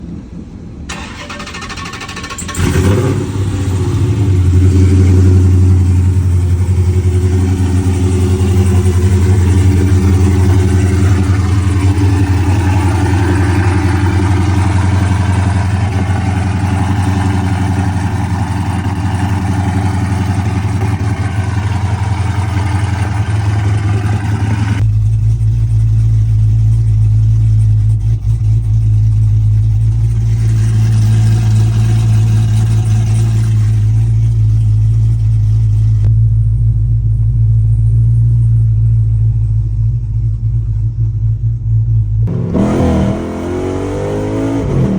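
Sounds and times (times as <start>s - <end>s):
car engine starting and idling: 0.0s - 44.9s
low hum: 2.3s - 44.9s.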